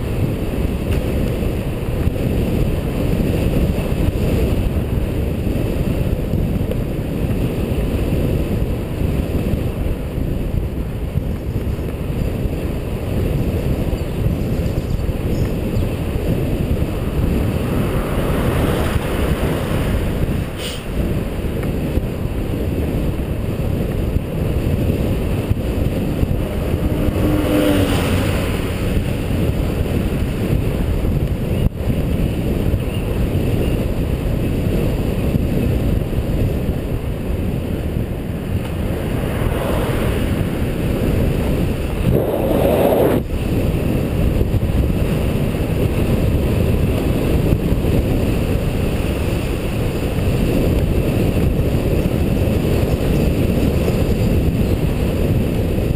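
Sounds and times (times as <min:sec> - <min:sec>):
wind and road noise rumble: 0:00.0 - 0:55.9.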